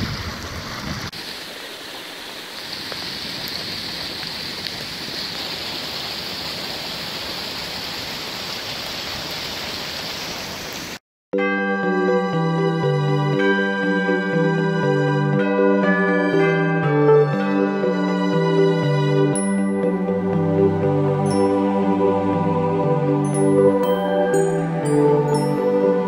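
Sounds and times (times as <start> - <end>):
floodwater rushing: 0.0 - 11.0, 12.9 - 26.0.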